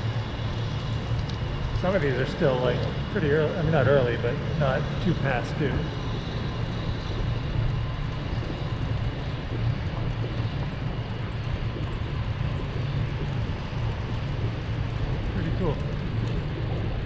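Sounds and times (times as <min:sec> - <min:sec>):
bicycle tyre and road noise: 0:00.0 - 0:17.0
wind buffeting microphone: 0:00.0 - 0:17.0.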